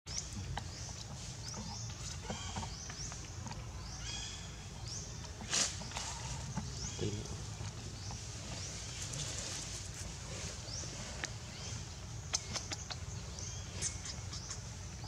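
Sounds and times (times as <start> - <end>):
low steady rumble: 0.1 - 15.0.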